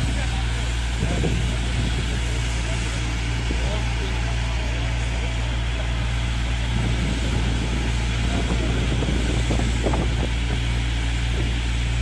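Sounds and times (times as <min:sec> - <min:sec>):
fire engine pump humming: 0:00.0 - 0:12.0.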